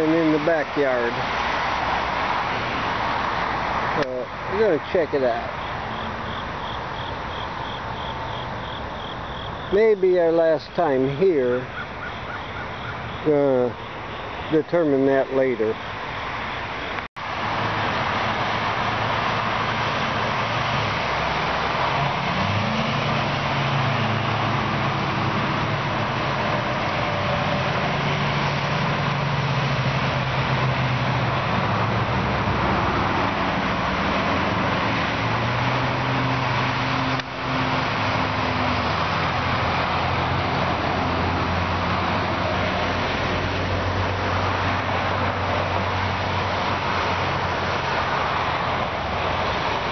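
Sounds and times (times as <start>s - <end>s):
road traffic passing: 0.0s - 49.9s.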